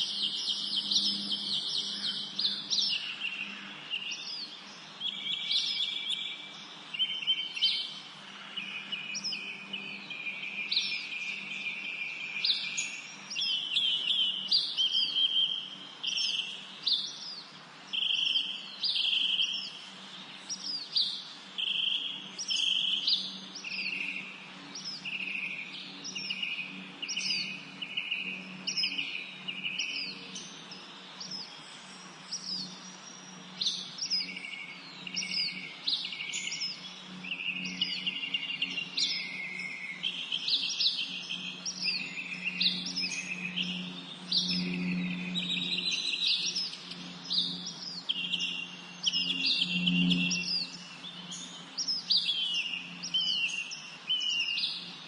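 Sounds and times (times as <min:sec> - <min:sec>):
low steady hum: 0:00.0 - 0:55.0
songbirds singing buzzy trills: 0:00.0 - 0:55.0.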